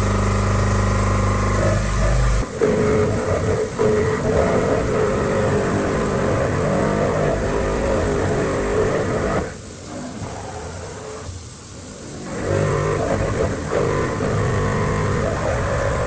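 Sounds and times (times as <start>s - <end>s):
milling machine cutting steel: 0.0s - 9.6s, 12.1s - 16.0s.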